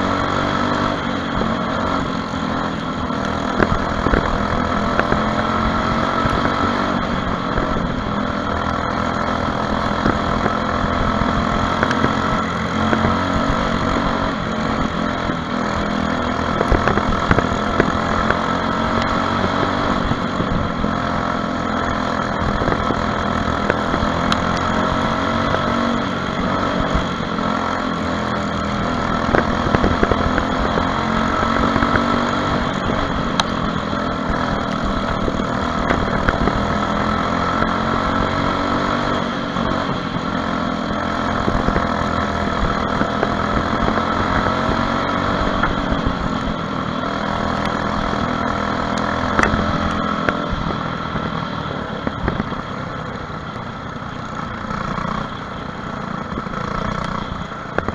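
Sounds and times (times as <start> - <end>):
kart engine racing: 0.0 - 57.9.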